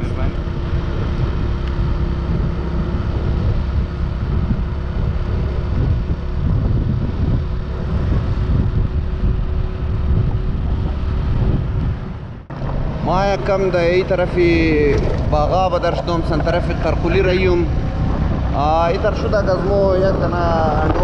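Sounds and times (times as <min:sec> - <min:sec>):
motorcycle engine hum: 0:00.0 - 0:21.0
wind buffeting microphone: 0:00.0 - 0:21.0.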